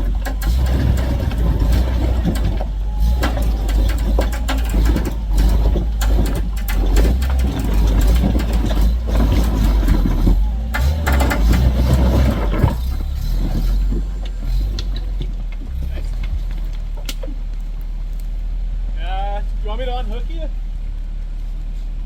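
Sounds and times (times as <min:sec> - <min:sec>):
truck engine running under load: 0:00.0 - 0:18.8.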